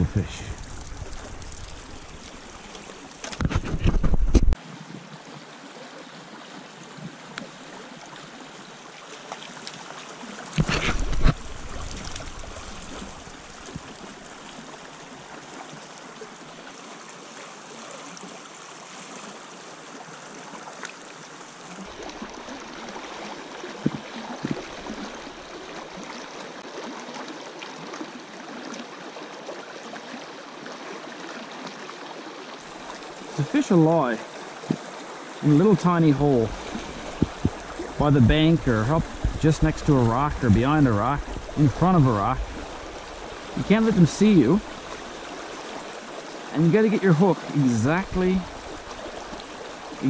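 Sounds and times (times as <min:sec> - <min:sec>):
brook running over rocks: 0:00.0 - 0:50.0.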